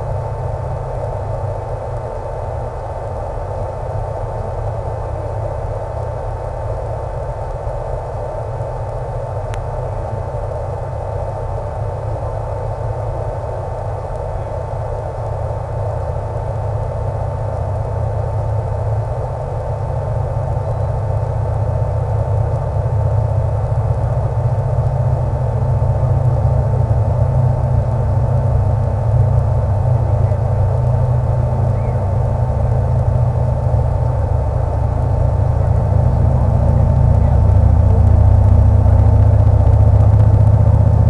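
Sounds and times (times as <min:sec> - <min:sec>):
faint steady tone: 0:00.0 - 0:41.0
wind: 0:00.0 - 0:41.0.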